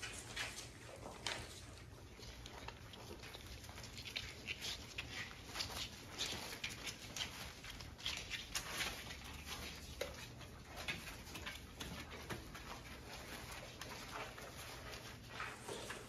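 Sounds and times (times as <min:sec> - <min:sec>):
puppy paws pattering on pads: 0:00.0 - 0:16.0.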